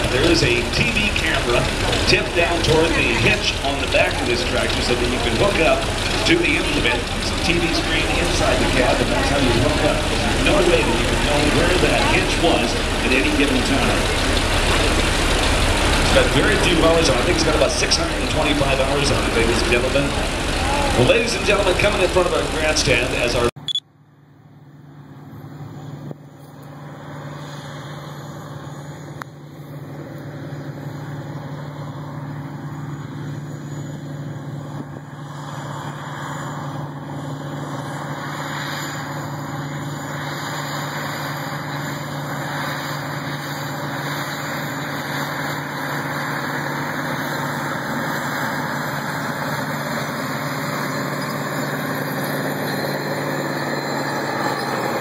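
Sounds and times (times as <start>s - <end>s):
tractor diesel engine under load: 0.0s - 23.6s, 31.9s - 55.0s.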